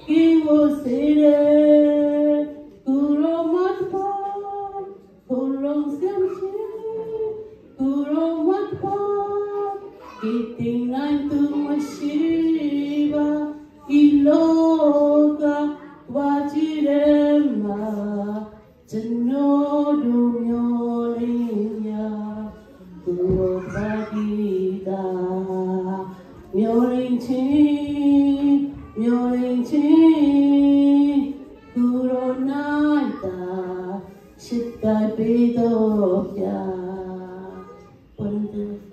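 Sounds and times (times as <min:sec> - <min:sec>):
woman singing into a microphone: 0:00.0 - 0:38.9.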